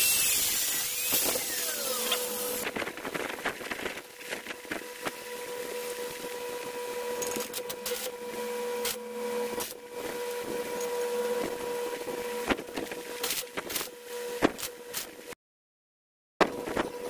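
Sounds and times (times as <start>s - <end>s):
steady machine hum: 0.0s - 15.4s.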